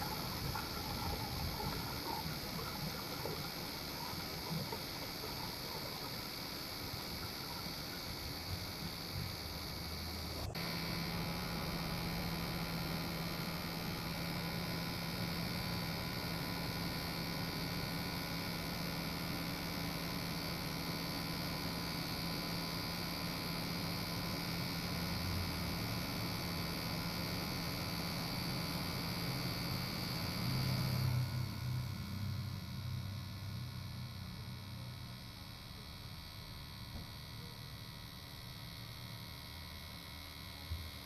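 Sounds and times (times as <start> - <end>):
high whine: 0.0 - 35.9
electric motor hum: 0.0 - 41.0.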